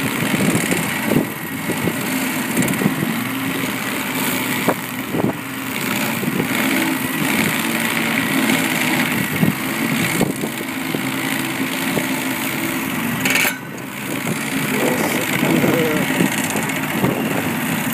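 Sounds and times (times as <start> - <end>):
stump grinder engine under load: 0.0 - 17.9.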